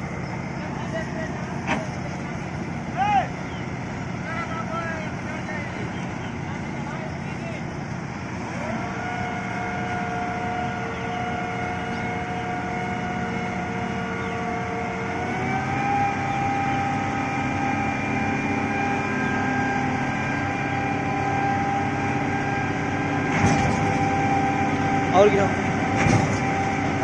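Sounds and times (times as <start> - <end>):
combine harvester engine whine: 0.0 - 27.0.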